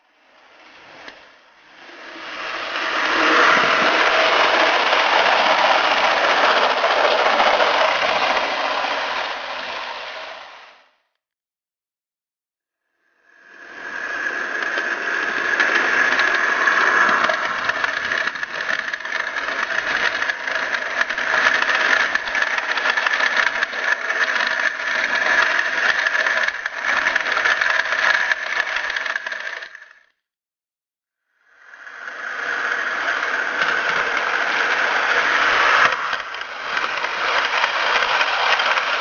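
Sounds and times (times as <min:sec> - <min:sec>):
model train motor whine: 0:00.1 - 0:10.9, 0:13.1 - 0:30.1, 0:31.4 - 0:39.0
wheels rattling on track: 0:00.5 - 0:10.6, 0:13.8 - 0:29.9, 0:32.0 - 0:39.0.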